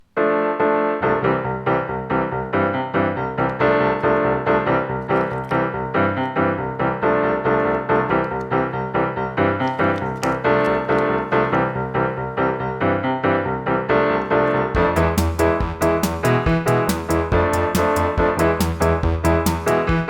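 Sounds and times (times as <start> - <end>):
bright keyboard tune with bass: 0.0 - 20.0.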